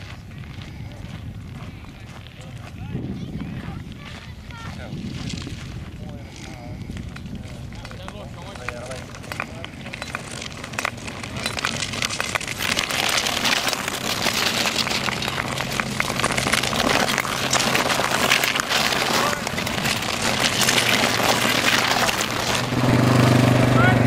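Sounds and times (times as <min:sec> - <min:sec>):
skate blades scraping on ice: 0:02.8 - 0:23.5.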